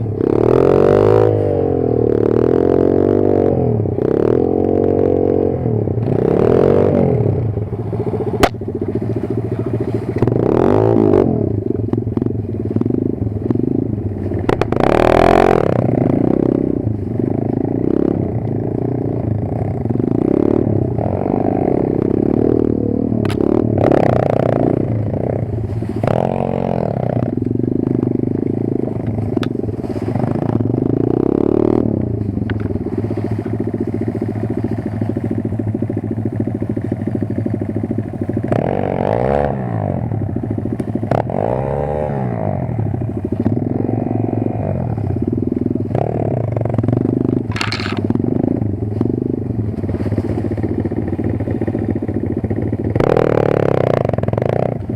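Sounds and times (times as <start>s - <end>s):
motorbike engine revving: 0.0s - 54.9s.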